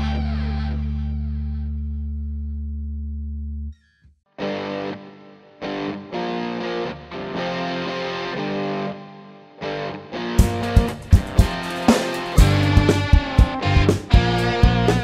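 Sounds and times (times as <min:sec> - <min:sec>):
distorted electric guitar riff: 0:00.0 - 0:03.5, 0:04.4 - 0:15.0.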